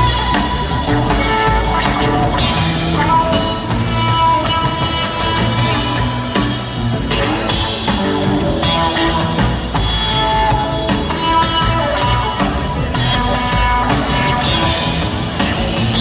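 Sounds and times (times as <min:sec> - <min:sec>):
drum kit: 0:00.0 - 0:16.0
electric guitar notes: 0:00.0 - 0:16.0
upright double bass: 0:00.0 - 0:16.0.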